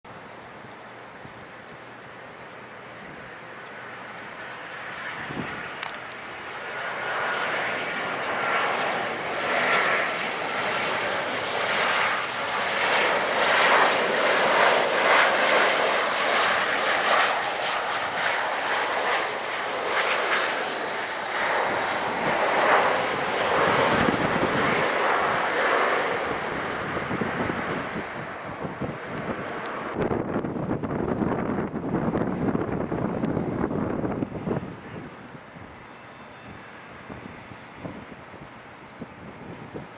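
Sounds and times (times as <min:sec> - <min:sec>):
jet engines of landing airliner: 0:00.1 - 0:39.9.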